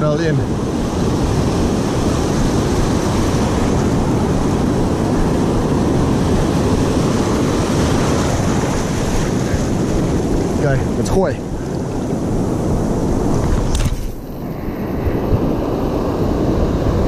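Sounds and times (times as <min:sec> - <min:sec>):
waves breaking and surf washing: 0:00.0 - 0:17.0
wind rumble on microphone: 0:00.0 - 0:17.0.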